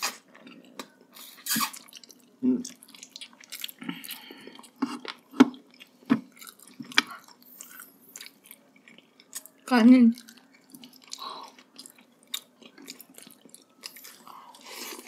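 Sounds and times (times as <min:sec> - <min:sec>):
wet chewing and lip-smacking: 0:01.7 - 0:15.0.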